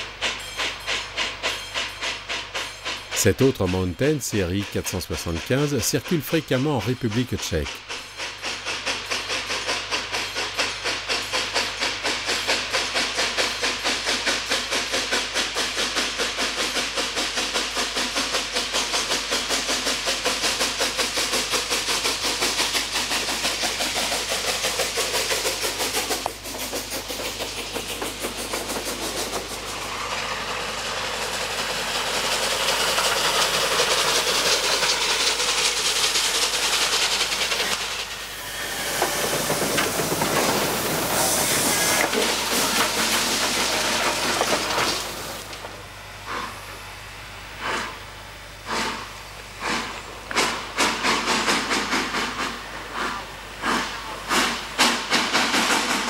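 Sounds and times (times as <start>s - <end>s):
steam hiss: 0.0s - 56.0s
steam locomotive exhaust beats: 0.0s - 56.0s.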